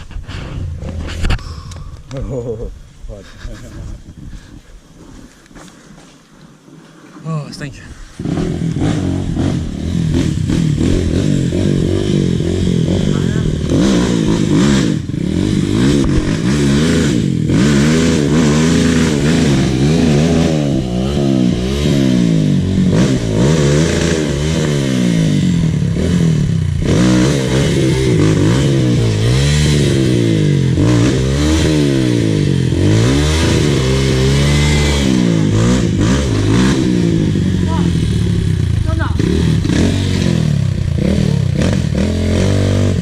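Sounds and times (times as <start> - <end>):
dirt bike engine revving: 8.2 - 43.0.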